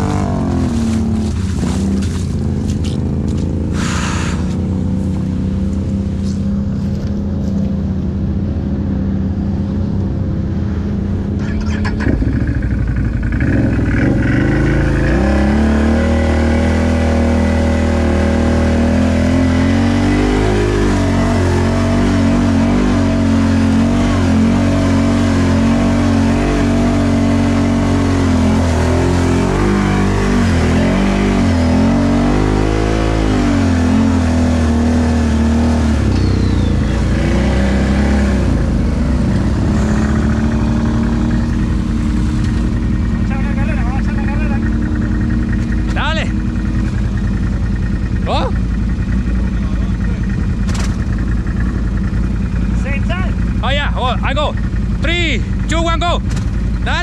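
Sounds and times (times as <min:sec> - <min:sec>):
vehicle engine revving: 0:00.0 - 0:57.0.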